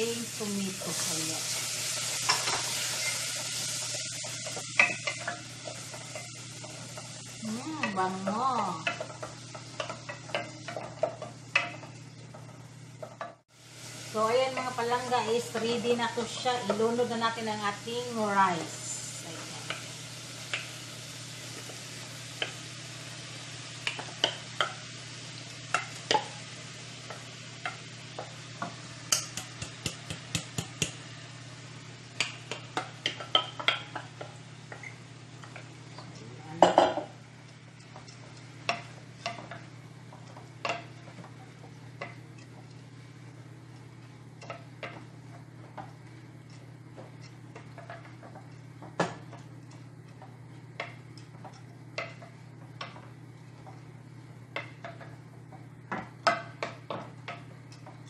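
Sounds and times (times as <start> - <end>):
light sizzle: 0.0 - 58.0.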